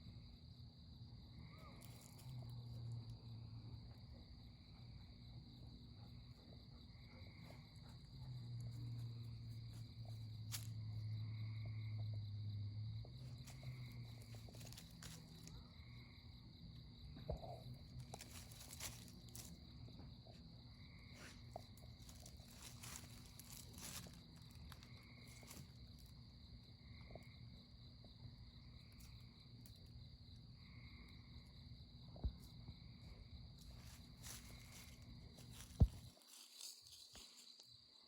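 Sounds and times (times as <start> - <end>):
high insect trill: 0.0 - 38.0
low buzzing insect call: 0.0 - 38.0.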